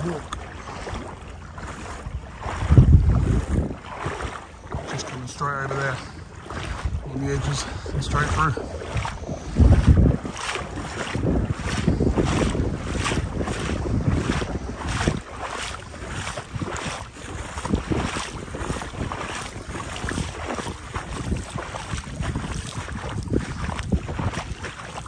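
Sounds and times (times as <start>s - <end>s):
wading through floodwater: 0.0s - 25.0s
wind buffeting microphone: 0.0s - 25.0s.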